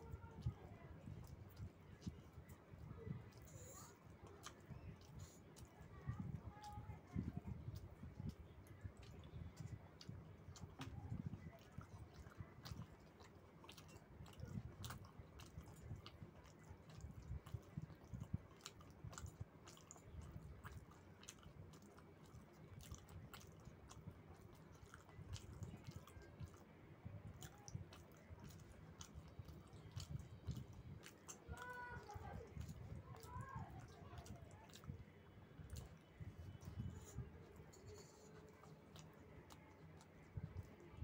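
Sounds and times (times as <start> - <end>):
person chewing food: 0.1 - 41.0
mouth clicks and smacks: 0.4 - 41.0.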